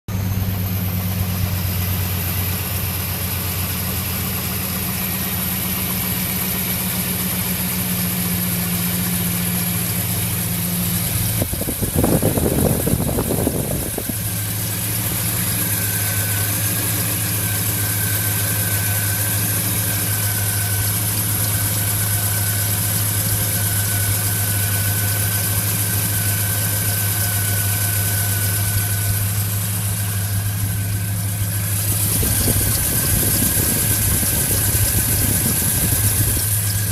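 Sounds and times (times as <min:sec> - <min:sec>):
car engine idling: 0:00.1 - 0:36.9.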